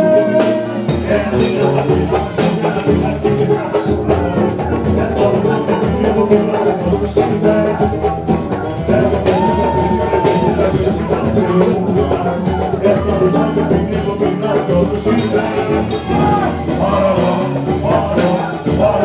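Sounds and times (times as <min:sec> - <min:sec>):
person singing: 0:00.0 - 0:19.0
samba band percussion: 0:00.0 - 0:19.0.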